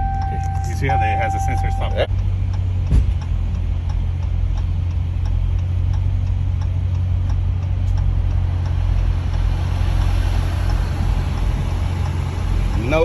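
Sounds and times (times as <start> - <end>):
light regular ticking: 0.0 - 13.0
vehicle engine idling: 0.0 - 13.0.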